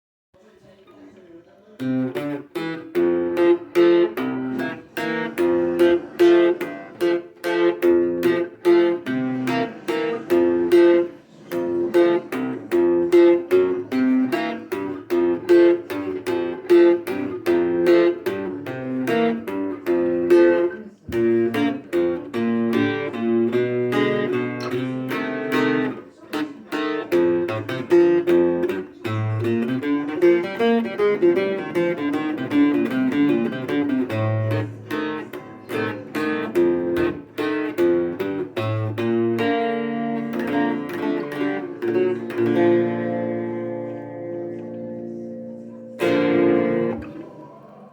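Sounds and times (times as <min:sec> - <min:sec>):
acoustic guitar picking: 0:01.8 - 0:47.6.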